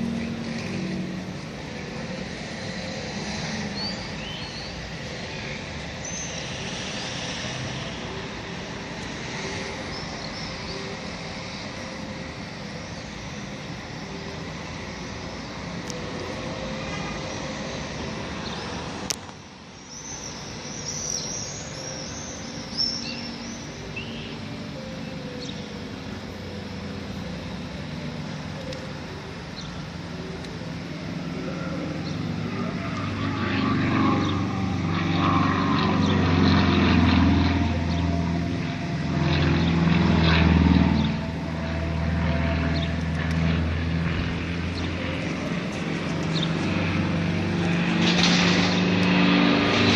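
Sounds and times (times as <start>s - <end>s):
distant traffic rumble: 0.0s - 49.9s.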